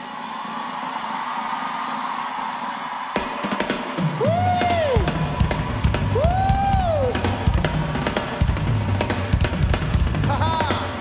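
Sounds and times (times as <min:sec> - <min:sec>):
drum kit solo: 0:00.0 - 0:11.0.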